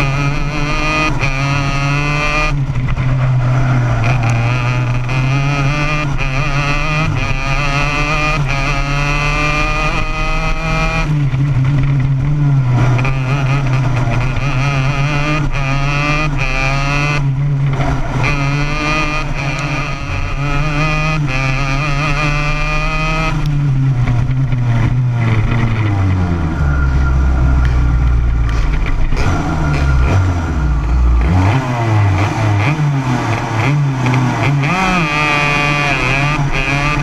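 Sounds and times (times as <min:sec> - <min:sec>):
kart engine revving: 0:00.0 - 0:37.0.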